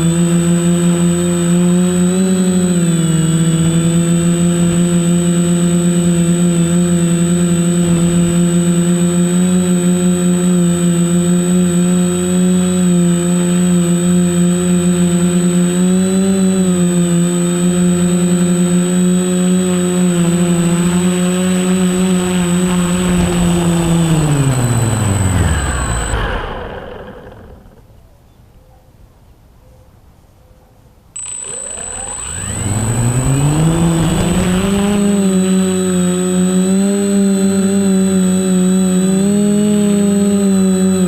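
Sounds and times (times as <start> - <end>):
quadcopter propellers whining: 0.0 - 27.9, 31.2 - 41.0.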